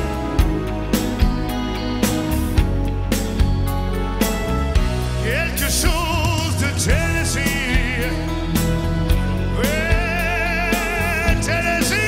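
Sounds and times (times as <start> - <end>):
band playing rock ballad: 0.0 - 12.0.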